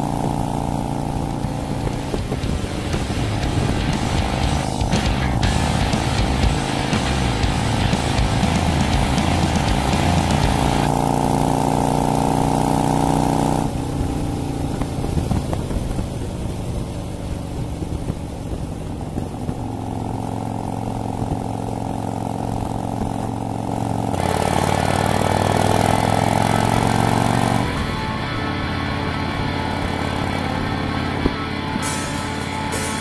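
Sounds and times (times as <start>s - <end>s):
muffled motorcycle engine: 0.0s - 33.0s.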